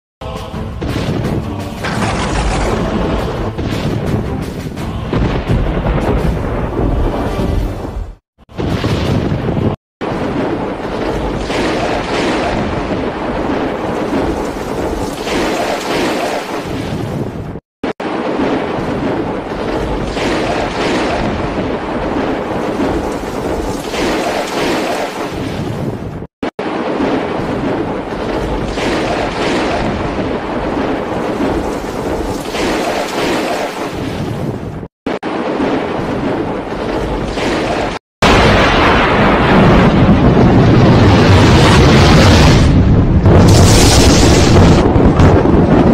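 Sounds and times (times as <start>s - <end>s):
rolling thunder rumble: 0.8s - 4.4s, 5.0s - 15.4s, 18.0s - 24.1s, 25.4s - 32.4s, 35.2s - 45.9s.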